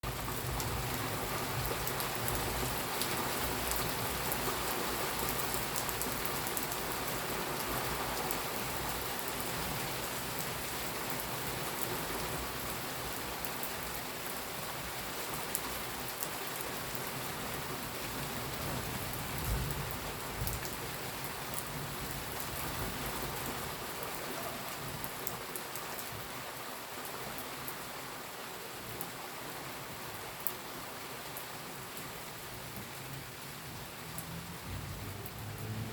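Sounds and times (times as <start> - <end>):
rain pattering on a surface: 0.0 - 35.9.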